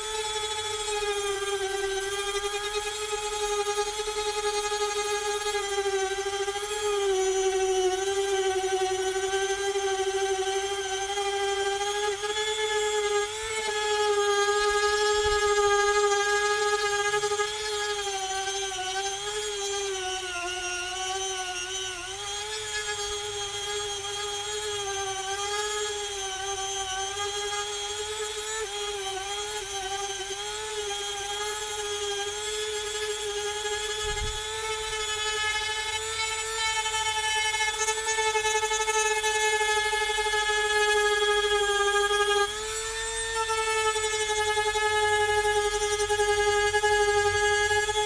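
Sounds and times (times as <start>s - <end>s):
rotary tool grinding silicone: 0.0s - 48.0s.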